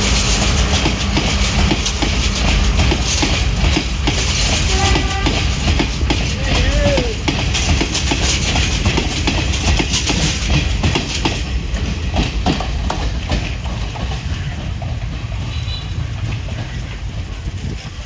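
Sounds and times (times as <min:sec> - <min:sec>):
deep train rumble: 0:00.0 - 0:18.0
train hissing noise: 0:00.0 - 0:18.0
train wheels clattering over joints: 0:00.0 - 0:18.0.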